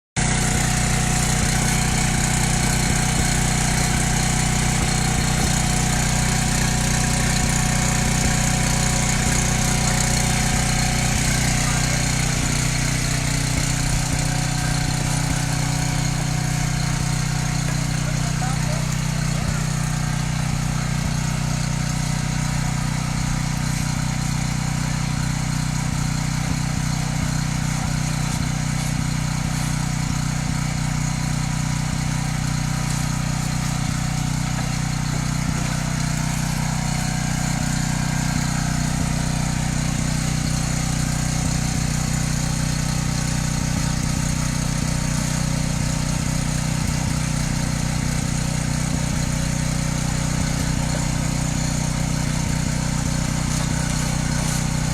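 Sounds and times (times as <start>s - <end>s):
engine running steadily: 0.2s - 54.9s.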